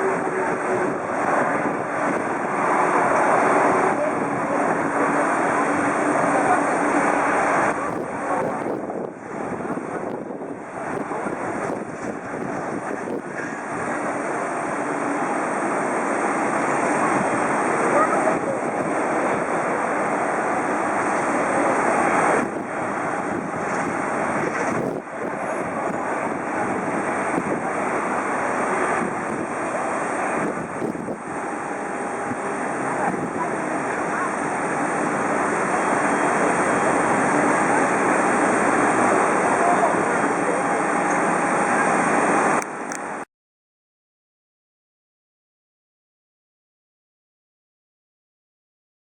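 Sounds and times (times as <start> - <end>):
airliner engines rushing: 0.0 - 43.3.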